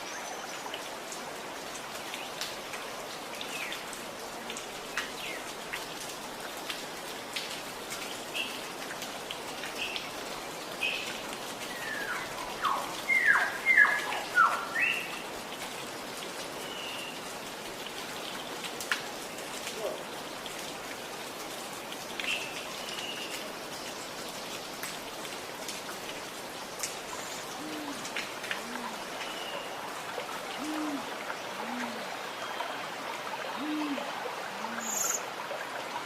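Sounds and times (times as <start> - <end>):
running water gurgling: 0.0 - 36.0
water ticks and drips: 0.0 - 36.0.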